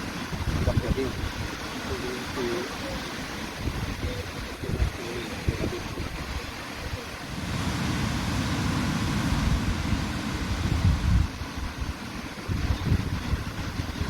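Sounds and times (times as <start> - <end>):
ocean surf washing onto beach: 0.0 - 14.0
wind buffeting microphone: 0.0 - 14.0.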